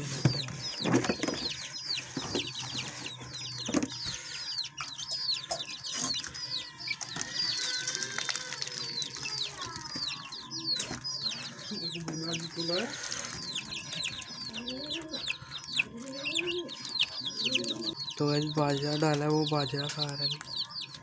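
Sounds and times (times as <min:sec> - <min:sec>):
chicks cheeping: 0:00.0 - 0:21.0.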